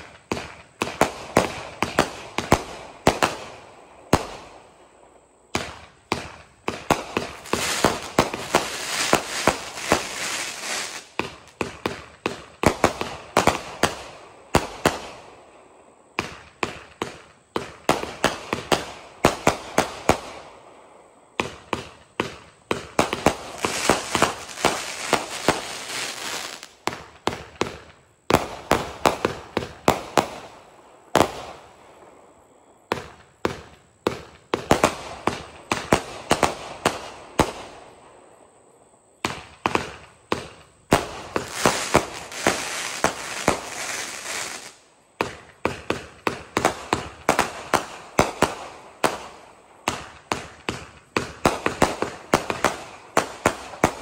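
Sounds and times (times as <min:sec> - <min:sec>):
fireworks cake firing sharp bangs: 0:00.0 - 0:04.8, 0:05.4 - 0:20.7, 0:21.3 - 0:32.3, 0:32.9 - 0:38.0, 0:39.2 - 0:54.0.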